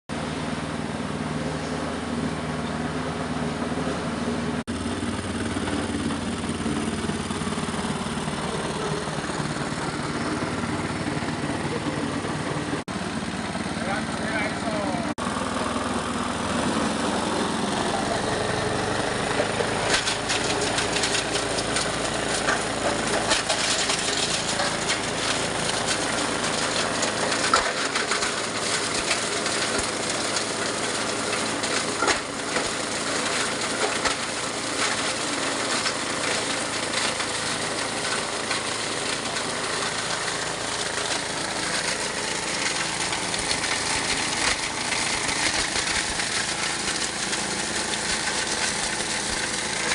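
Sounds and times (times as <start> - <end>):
plastic shredder running: 2.0 - 49.9.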